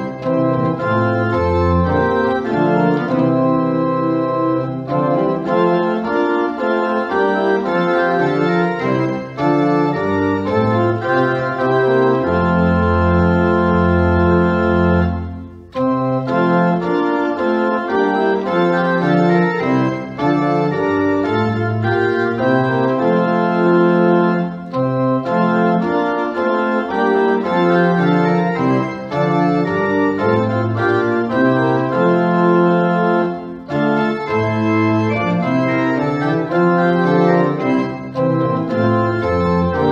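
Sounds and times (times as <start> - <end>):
organ playing slow chords: 0.0 - 39.9.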